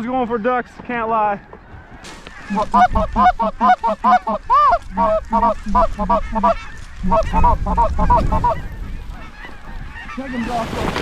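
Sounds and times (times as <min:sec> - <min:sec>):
goose honking: 0:00.0 - 0:10.7.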